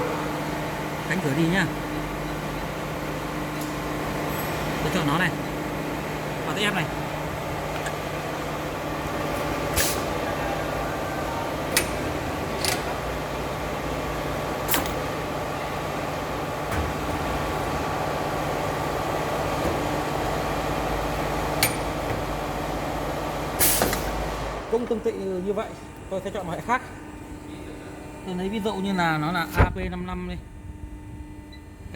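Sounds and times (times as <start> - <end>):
crimping machine hum: 0.0 - 31.9.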